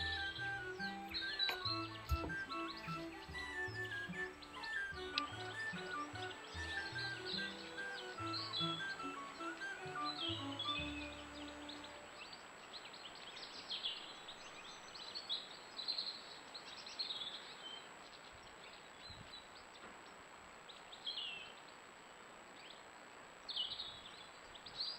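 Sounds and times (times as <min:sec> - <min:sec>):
small birds chirping: 0:00.0 - 0:21.9
faint outdoor background hiss: 0:00.0 - 0:24.9.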